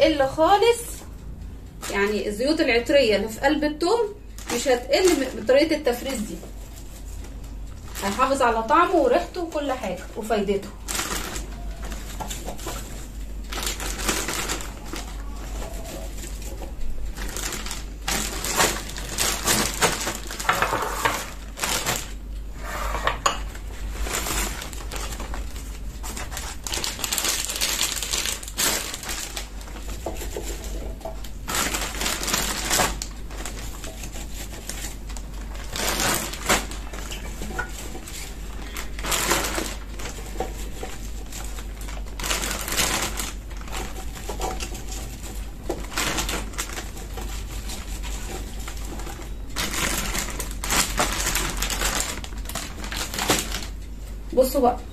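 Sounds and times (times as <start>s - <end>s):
plastic bags rustling: 0.0s - 54.7s.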